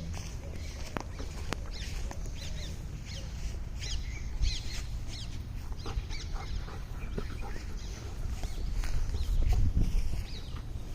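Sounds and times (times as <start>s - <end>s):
small birds chirping: 0.0s - 10.9s
steady low rumble: 0.0s - 10.9s.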